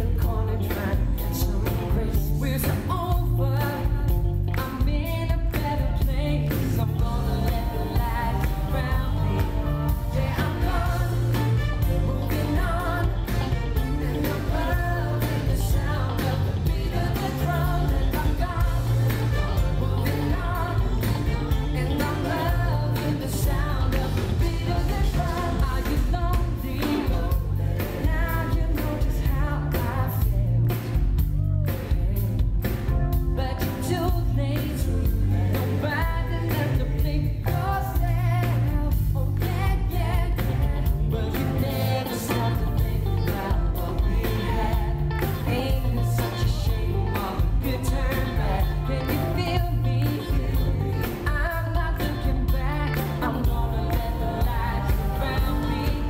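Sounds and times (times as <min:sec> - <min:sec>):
male vocal group singing: 0:00.0 - 0:31.0, 0:33.5 - 0:56.0
band with drums and bass: 0:00.0 - 0:56.0.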